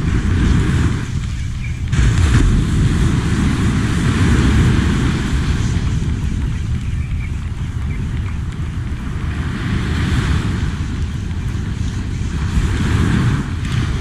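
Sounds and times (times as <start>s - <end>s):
waves washing on beach: 0.0s - 14.0s
wind buffeting microphone: 0.0s - 14.0s.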